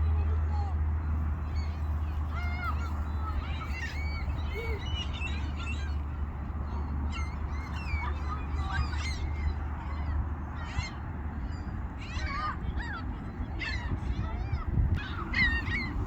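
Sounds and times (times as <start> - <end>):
gulls calling: 1.1 - 16.0.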